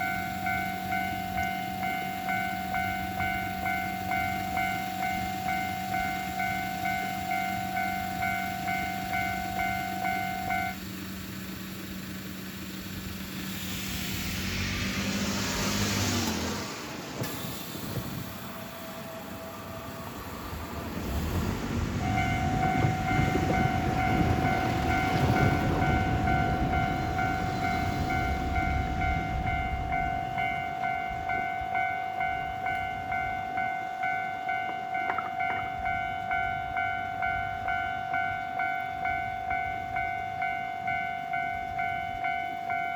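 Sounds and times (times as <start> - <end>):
level-crossing warning bell ringing: 0.0 - 13.3, 17.2 - 42.9
diesel railcar engine hum: 0.0 - 42.9
train rumbling past: 0.0 - 42.9.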